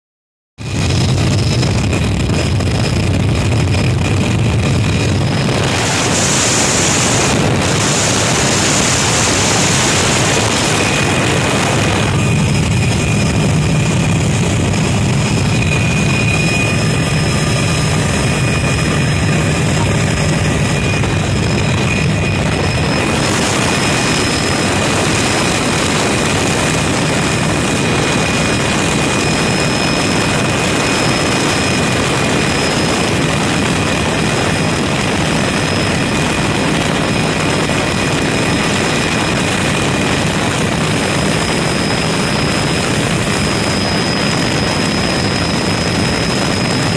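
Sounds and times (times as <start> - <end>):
helicopter rotor noise: 0.6 - 46.9
helicopter turbine whine: 0.6 - 46.9.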